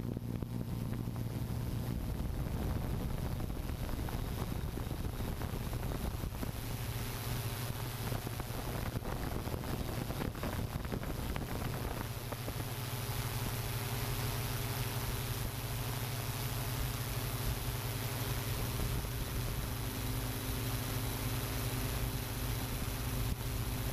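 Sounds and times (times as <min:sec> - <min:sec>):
drone rotors humming: 0:00.0 - 0:23.9
wind noise on microphone: 0:00.0 - 0:23.9.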